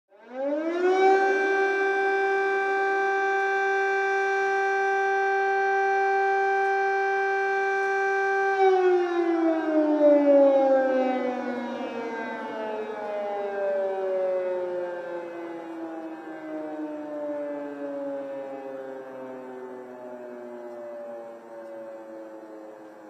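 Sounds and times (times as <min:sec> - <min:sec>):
air raid siren wailing: 0:00.1 - 0:23.0.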